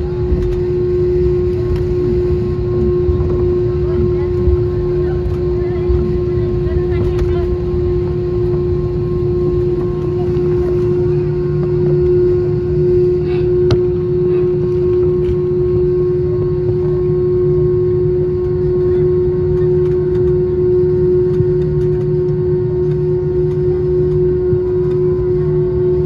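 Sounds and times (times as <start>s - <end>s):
jet engines idling in cabin: 0.0s - 26.0s.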